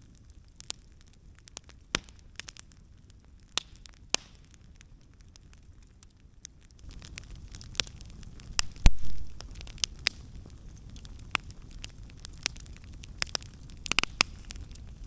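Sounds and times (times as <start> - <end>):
burning wood popping: 0.0 - 15.0
campfire crackling: 0.0 - 15.0.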